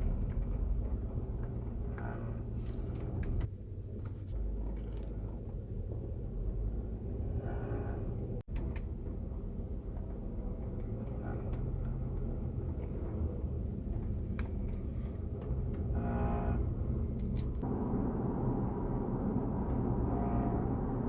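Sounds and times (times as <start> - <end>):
car cabin low rumble: 0.0 - 21.0.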